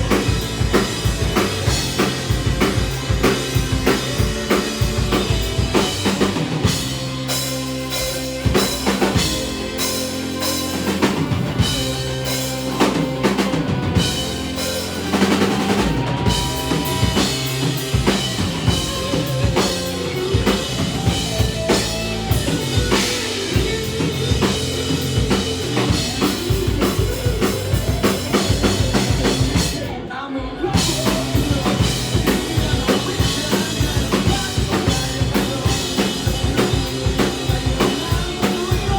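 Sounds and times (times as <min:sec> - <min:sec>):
drum kit bass drum and snare: 0:00.0 - 0:30.0, 0:30.8 - 0:38.9
punk rock band playing: 0:00.0 - 0:38.9.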